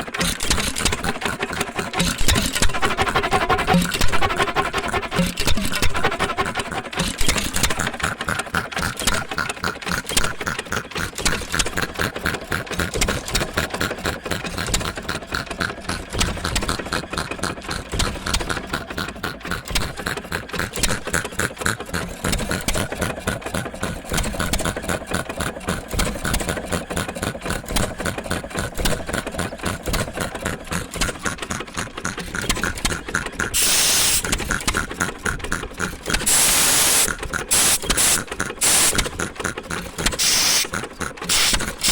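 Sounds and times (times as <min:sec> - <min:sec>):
engine compressor clattering: 0:00.0 - 0:41.9.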